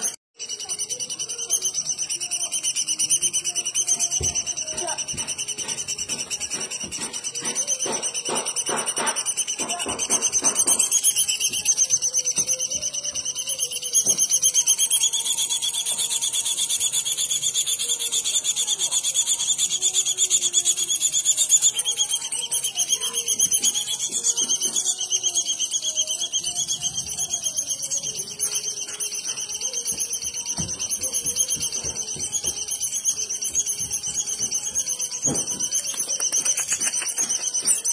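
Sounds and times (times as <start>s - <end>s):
songbird buzzy trill: 0.0s - 37.9s.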